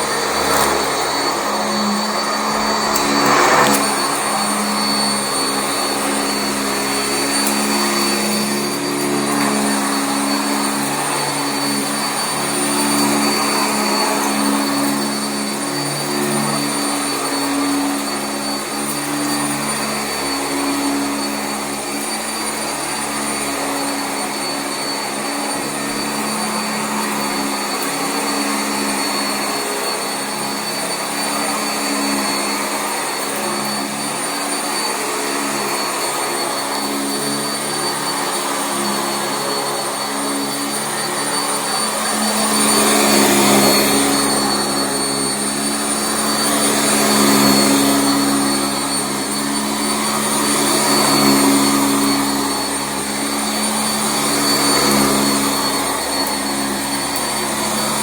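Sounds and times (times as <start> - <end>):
upright vacuum running on carpet: 0.0 - 58.0.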